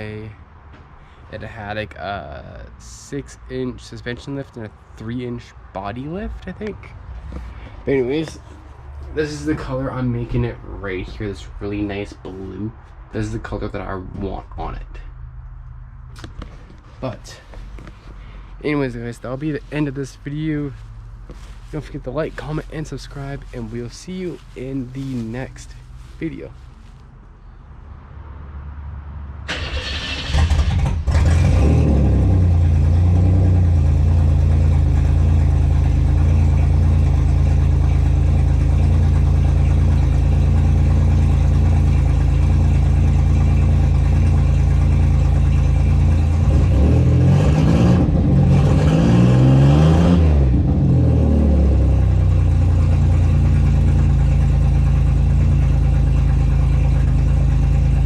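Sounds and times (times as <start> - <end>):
vehicle engine starting and idling: 1.3 - 27.6, 29.4 - 58.0.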